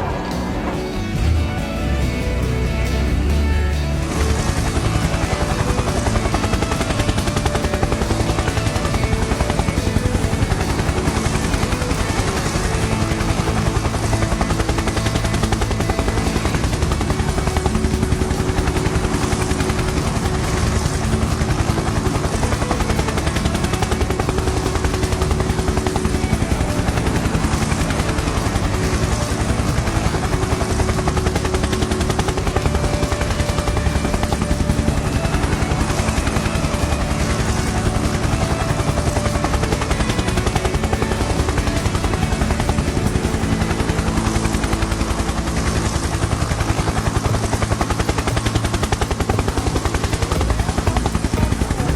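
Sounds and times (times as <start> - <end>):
motor running with fast chop: 0.0 - 51.9.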